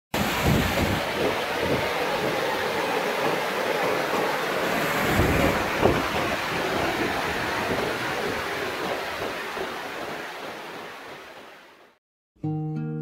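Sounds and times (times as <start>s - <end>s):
wind buffeting microphone: 0.2s - 11.6s
waterfall rushing: 0.2s - 12.0s.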